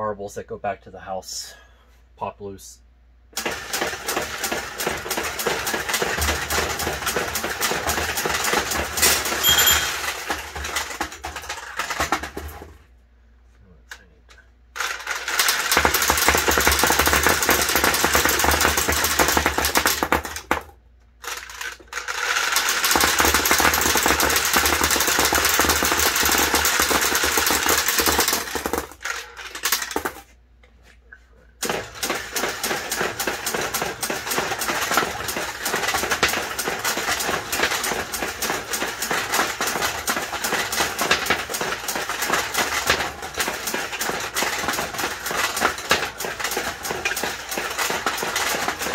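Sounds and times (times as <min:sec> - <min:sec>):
steel balls rattling in pachinko machine: 0:03.4 - 0:12.6, 0:14.8 - 0:20.6, 0:21.2 - 0:30.3, 0:31.6 - 0:48.9.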